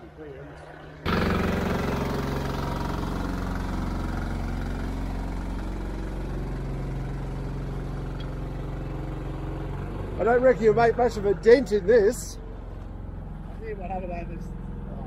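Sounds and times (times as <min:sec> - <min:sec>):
diesel truck engine running fast: 0:01.0 - 0:15.0.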